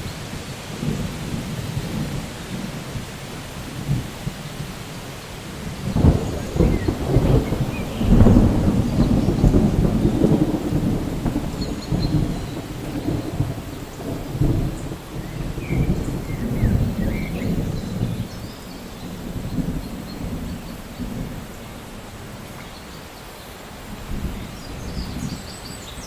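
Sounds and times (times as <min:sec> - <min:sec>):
rain hissing: 0:00.0 - 0:26.0
rolling thunder: 0:00.7 - 0:04.9, 0:05.5 - 0:22.6.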